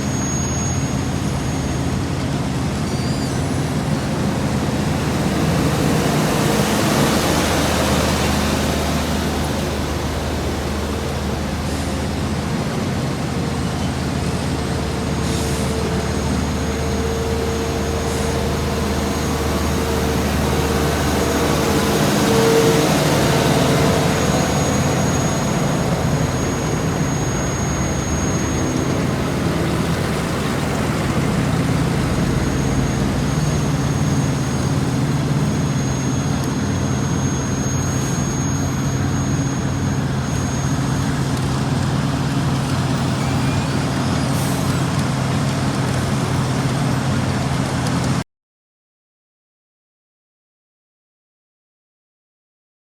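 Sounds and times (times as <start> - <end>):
diesel machinery running: 0.0 - 48.2
steady whine: 0.0 - 48.2.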